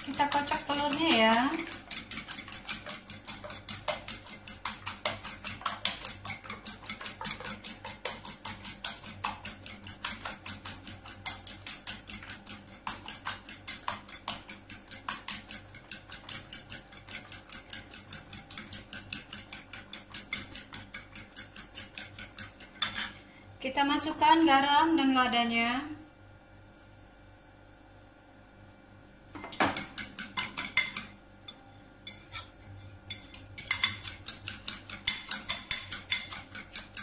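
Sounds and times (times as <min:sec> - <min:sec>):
fork beating eggs in bowl: 0:00.0 - 0:23.3, 0:29.4 - 0:37.0.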